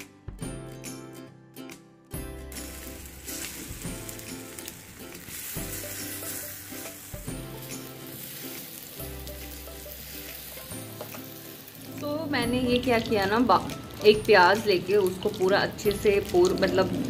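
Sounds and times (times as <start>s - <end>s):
background music: 0.0s - 17.0s
hot oil sizzling: 2.3s - 17.0s.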